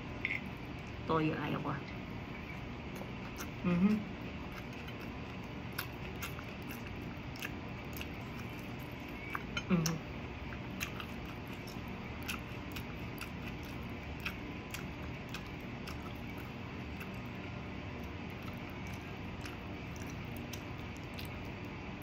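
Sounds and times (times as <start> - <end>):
person chewing: 2.9 - 21.8.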